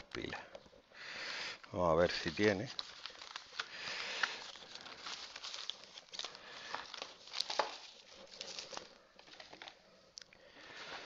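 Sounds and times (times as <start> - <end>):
paper and packaging crinkling: 1.5 - 11.0.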